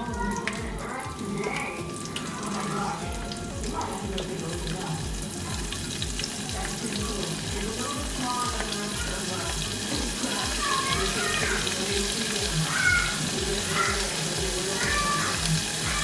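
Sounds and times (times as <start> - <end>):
shrimp deep-frying in bubbling oil: 0.0 - 16.0.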